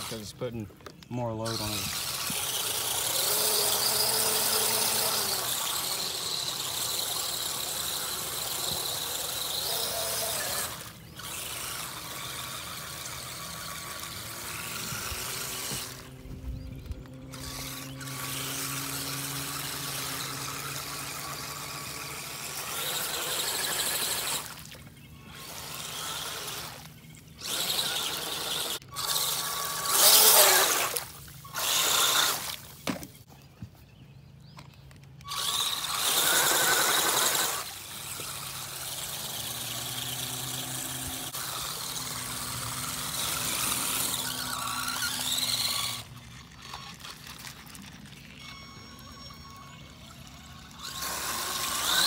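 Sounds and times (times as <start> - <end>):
electric motor and gears whining: 0.0 - 52.0.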